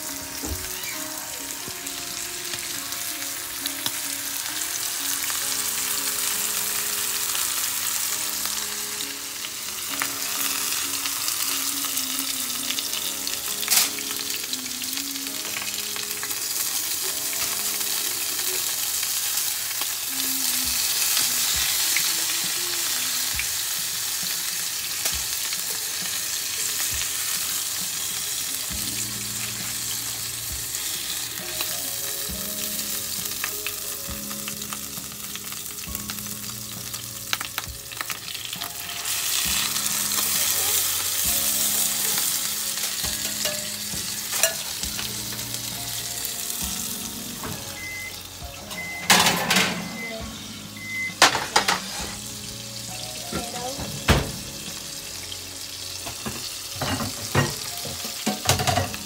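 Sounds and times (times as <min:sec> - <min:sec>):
chicken sizzling in a frying pan: 0:00.0 - 0:59.0.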